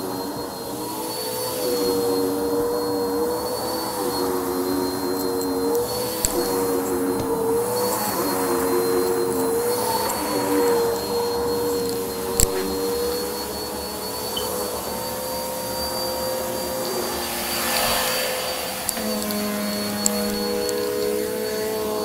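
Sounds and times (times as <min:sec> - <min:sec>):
vacuum cleaner running over carpet: 0:00.0 - 0:22.0.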